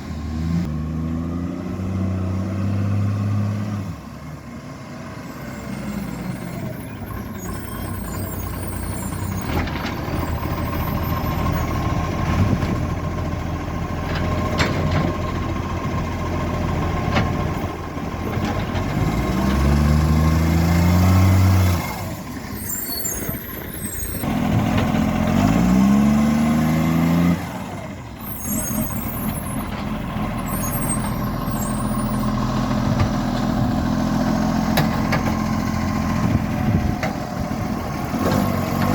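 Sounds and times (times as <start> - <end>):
garbage truck diesel engine revving: 0.0 - 38.9.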